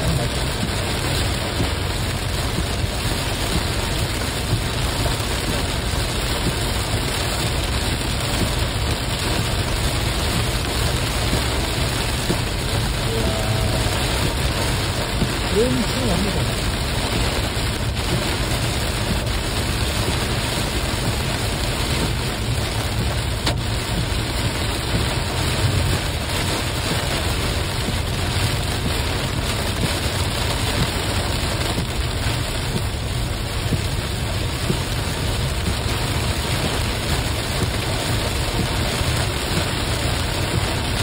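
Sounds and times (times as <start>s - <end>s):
heavy rain on car roof: 0.0s - 41.0s
road rumble: 0.0s - 41.0s.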